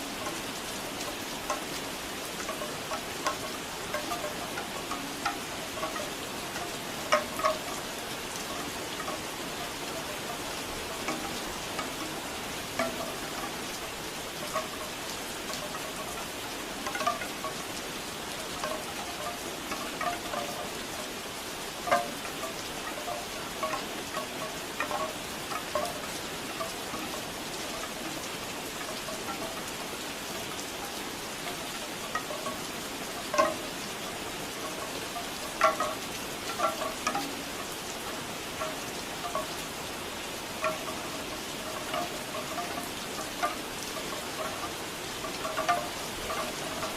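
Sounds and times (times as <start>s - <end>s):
bamboo wind chimes knocking: 0.0s - 46.9s
rain falling: 0.0s - 46.9s.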